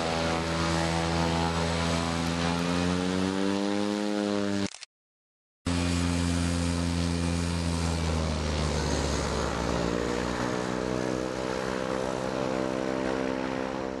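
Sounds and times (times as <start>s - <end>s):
turboprop engine running: 0.0s - 4.7s, 5.7s - 14.0s.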